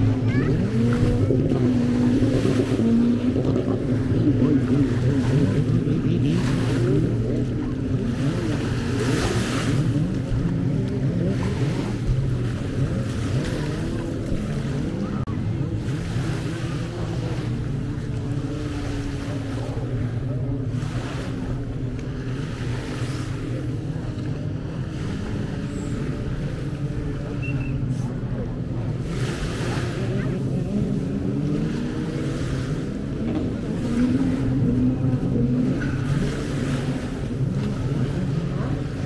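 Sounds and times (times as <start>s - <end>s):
engine running steadily: 0.0s - 39.0s
surf washing: 0.0s - 39.0s.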